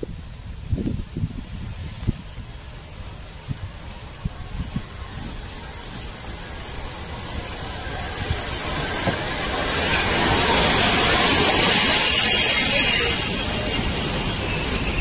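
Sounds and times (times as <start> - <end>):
steam locomotive hiss: 0.0 - 15.0
wheels rumbling on rails: 0.0 - 15.0.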